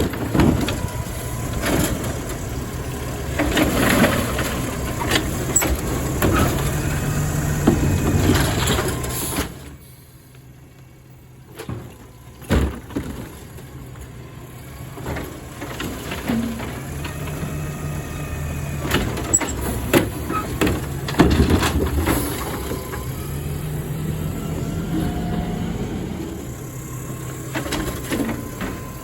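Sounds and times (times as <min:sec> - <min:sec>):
garbage truck engine running: 0:00.0 - 0:29.0.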